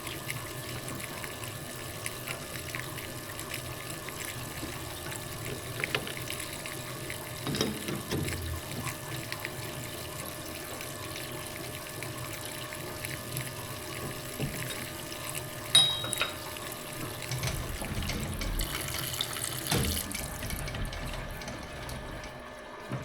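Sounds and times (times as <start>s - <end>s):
coolant flowing: 0.0s - 23.0s.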